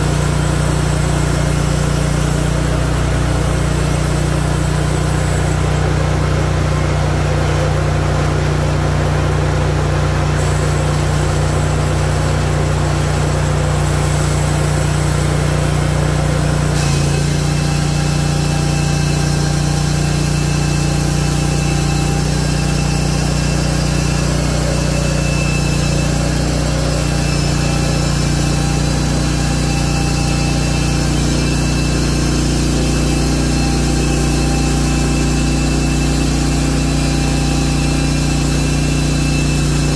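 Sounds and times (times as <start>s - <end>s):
bandsaw mill cutting log: 0.0s - 39.9s.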